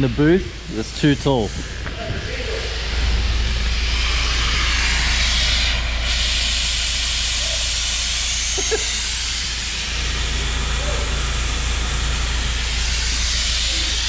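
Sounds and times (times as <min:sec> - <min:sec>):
low hum: 0:00.0 - 0:14.0
rushing air hiss: 0:00.0 - 0:14.0.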